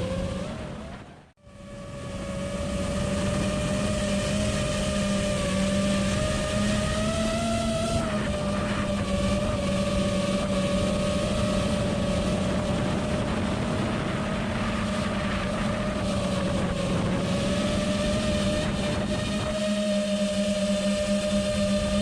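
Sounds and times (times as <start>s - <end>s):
drone motors and propellers whining: 0.0s - 22.0s
wind rushing over microphone: 0.0s - 22.0s.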